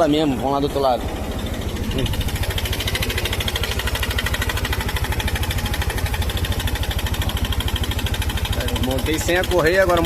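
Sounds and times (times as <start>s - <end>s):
engine knocking: 0.0s - 10.0s
scooter engine idling: 0.0s - 10.0s.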